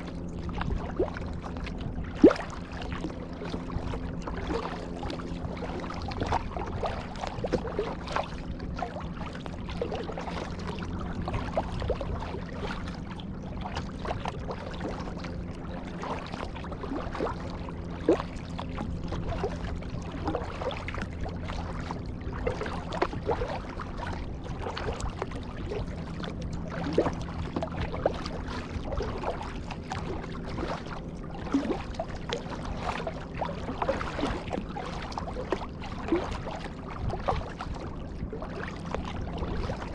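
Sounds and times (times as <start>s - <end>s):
knocks and trickling water on hull: 0.0s - 39.9s
paddle splashing in water: 0.0s - 39.9s.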